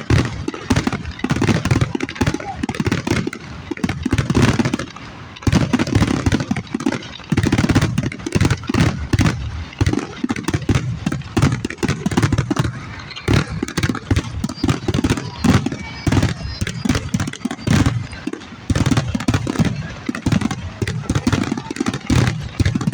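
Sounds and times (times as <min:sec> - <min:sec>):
fireworks bangs and crackles: 0:00.0 - 0:22.9.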